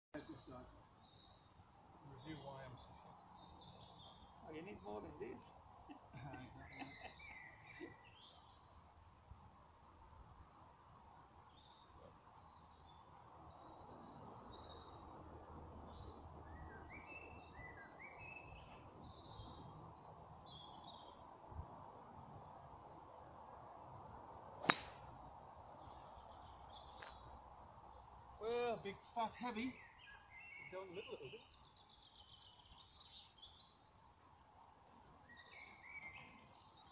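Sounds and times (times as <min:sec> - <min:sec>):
faint birdsong: 0:00.2 - 0:36.9.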